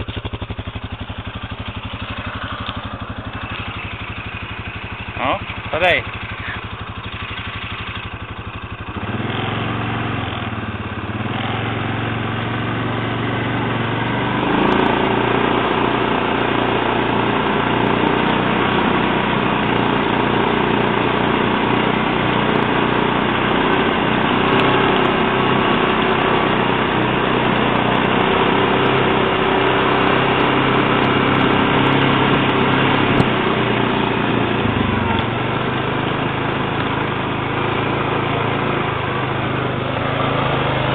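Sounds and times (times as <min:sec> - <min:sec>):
quad bike engine: 0:00.0 - 0:40.9.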